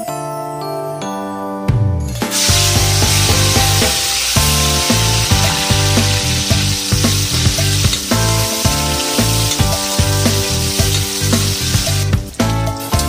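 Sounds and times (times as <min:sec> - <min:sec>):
background music with steady beat: 0:01.6 - 0:13.0
carrots sizzling in hot oil: 0:02.3 - 0:13.0.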